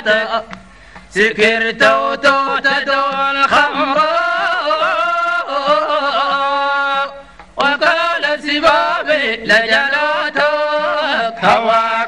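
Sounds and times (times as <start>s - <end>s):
man singing ornamented notes: 0.0s - 12.0s.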